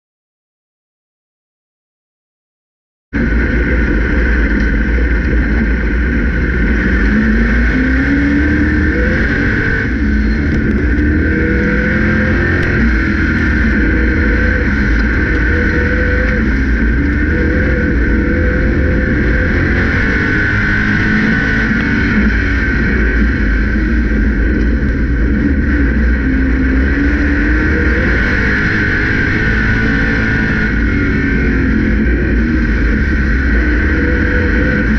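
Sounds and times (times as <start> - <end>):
race car engine revving: 3.2 - 34.9.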